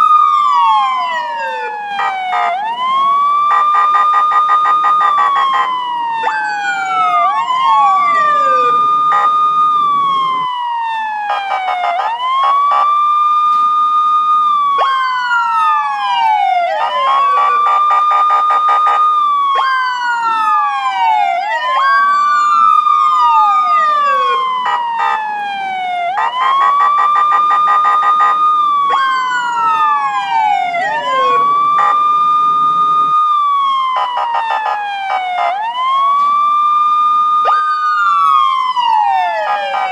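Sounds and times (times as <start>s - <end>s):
police sirens wailing: 0.0s - 39.9s.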